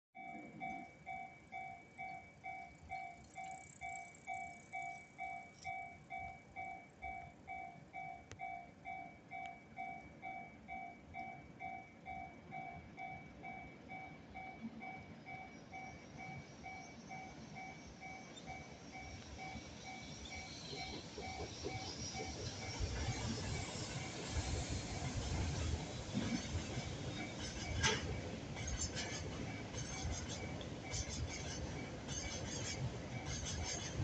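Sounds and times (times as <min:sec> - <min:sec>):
level crossing warning bell: 0:00.2 - 0:34.0.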